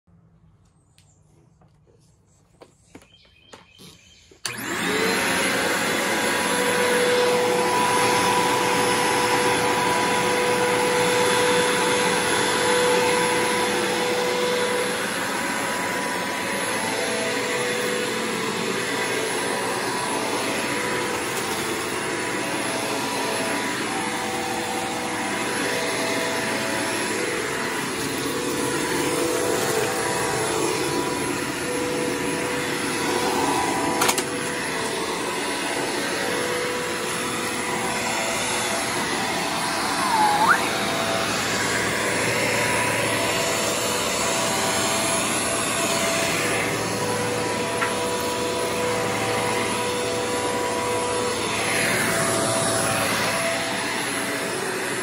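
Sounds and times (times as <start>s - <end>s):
vacuum cleaner running: 1.6s - 55.0s.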